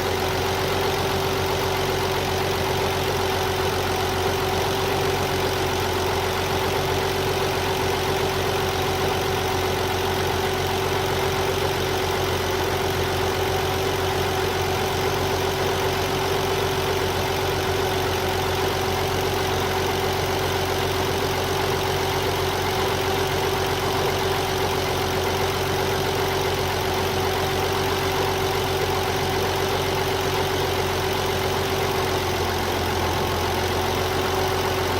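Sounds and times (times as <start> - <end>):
car engine idling with whine: 0.0 - 34.9
engine knock: 0.0 - 34.9.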